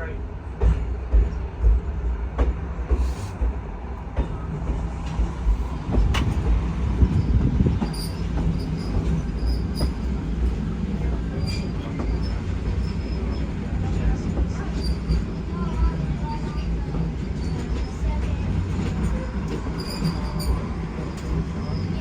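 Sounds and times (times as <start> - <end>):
train wheels clanking on track: 0.4 - 22.0.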